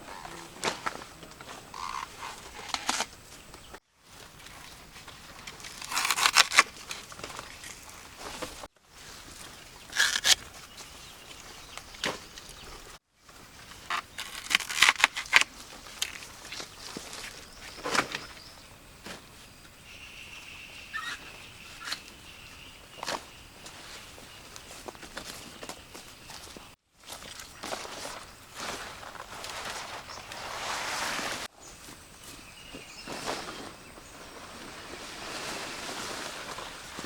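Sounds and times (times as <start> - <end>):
rustling and crackling: 0.0 - 19.5, 23.0 - 37.0.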